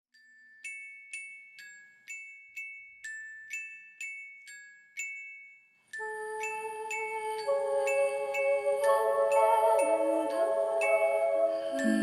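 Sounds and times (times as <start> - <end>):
bell-like melody: 0.1 - 12.0.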